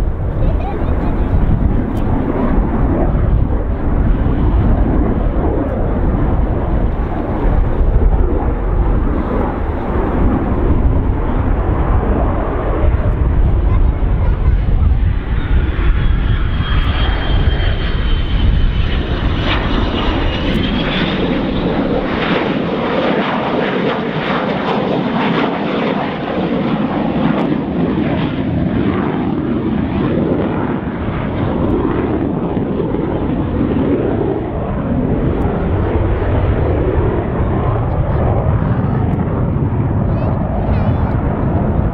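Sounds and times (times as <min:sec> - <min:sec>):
high jet whine: 0:00.0 - 0:41.9
jet engine roaring: 0:00.0 - 0:41.9.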